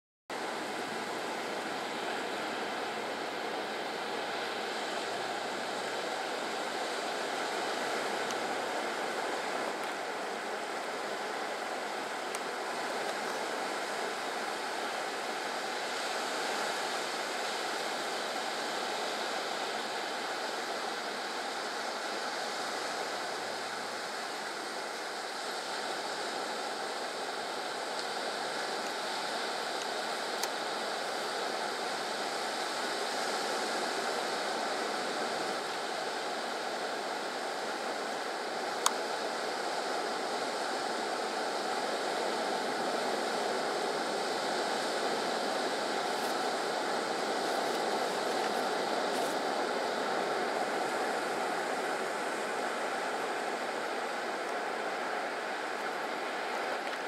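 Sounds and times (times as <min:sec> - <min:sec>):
stream running over stones: 0:00.4 - 0:57.0
surf breaking on beach: 0:00.4 - 0:57.0.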